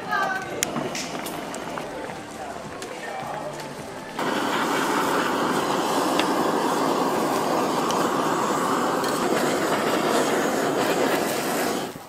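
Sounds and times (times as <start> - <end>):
blowtorch flame rushing: 0.0 - 12.0.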